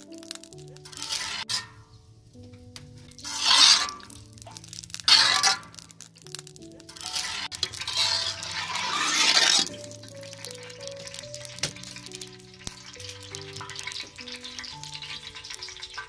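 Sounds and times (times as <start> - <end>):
sizzling in hot oil: 0.0 - 16.0
slow melodic background music: 0.0 - 16.0.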